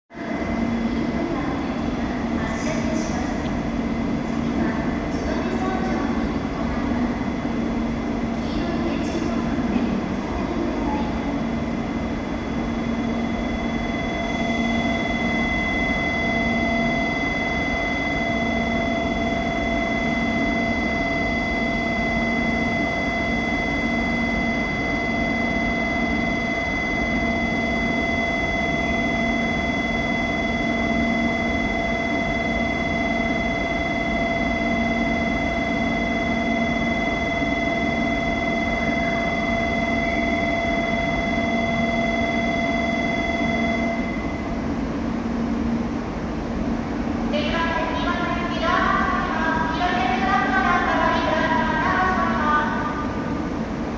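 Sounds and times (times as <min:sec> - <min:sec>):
train equipment hum: 0:00.1 - 0:53.9.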